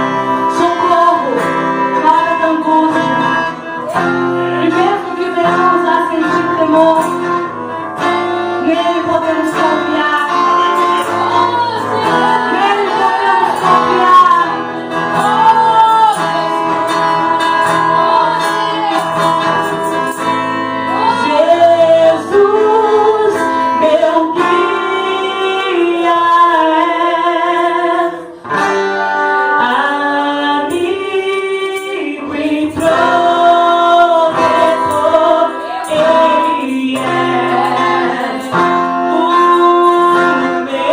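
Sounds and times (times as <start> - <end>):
guitar accompaniment: 0.0 - 40.9
woman singing: 0.0 - 40.9.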